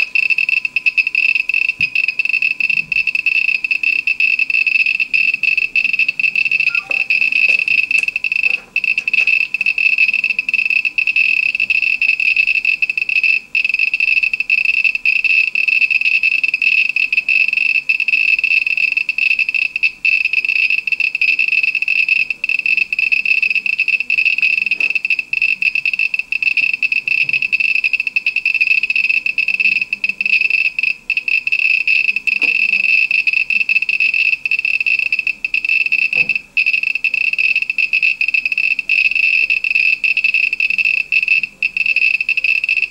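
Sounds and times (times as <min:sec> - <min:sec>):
geiger counter chirring: 0:00.0 - 0:42.9.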